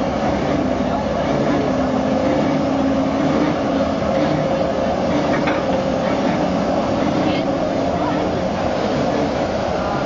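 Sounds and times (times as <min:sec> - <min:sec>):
turntable mechanical hum: 0:00.0 - 0:10.0.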